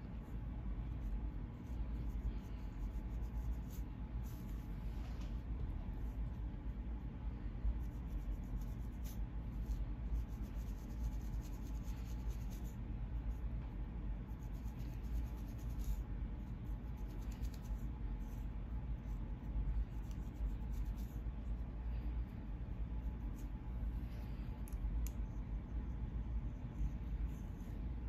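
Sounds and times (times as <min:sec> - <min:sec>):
low hum: 0:00.0 - 0:28.0
comb scratching on scalp: 0:00.1 - 0:05.3, 0:07.6 - 0:21.7, 0:22.3 - 0:28.0.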